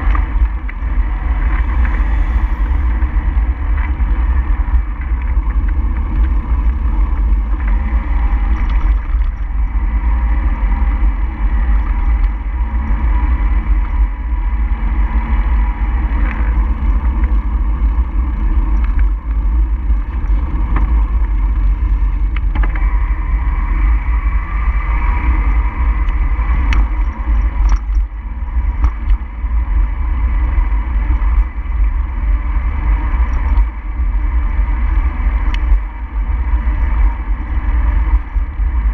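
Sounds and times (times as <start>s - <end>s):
road noise: 0.0s - 38.9s
wind rumble: 0.0s - 38.9s.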